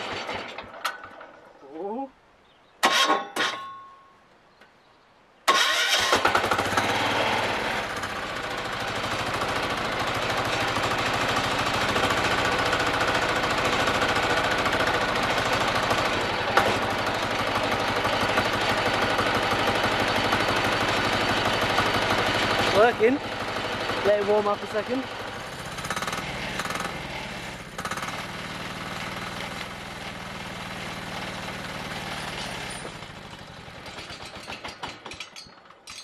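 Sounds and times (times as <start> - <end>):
small engine running: 5.5 - 35.2.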